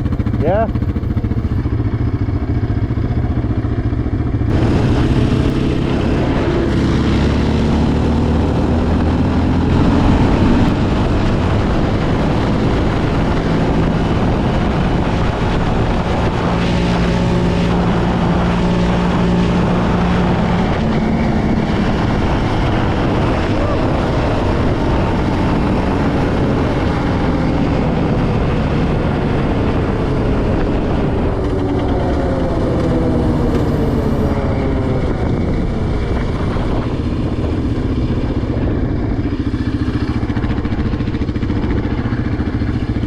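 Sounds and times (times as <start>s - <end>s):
quad bike engine revving: 0.0s - 43.0s.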